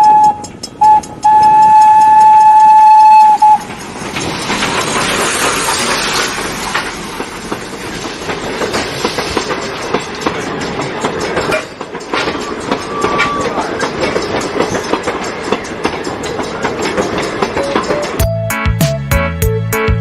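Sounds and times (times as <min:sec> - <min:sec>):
road train wagons rattling: 0:00.0 - 0:18.5.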